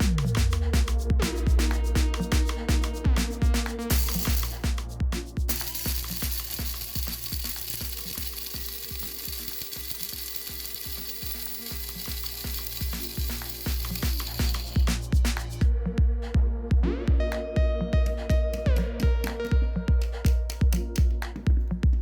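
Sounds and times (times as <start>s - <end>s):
background music with beat: 0.0s - 22.0s.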